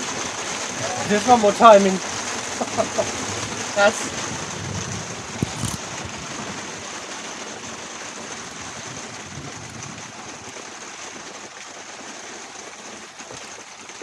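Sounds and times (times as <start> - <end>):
rain on a motorhome: 0.0 - 14.0.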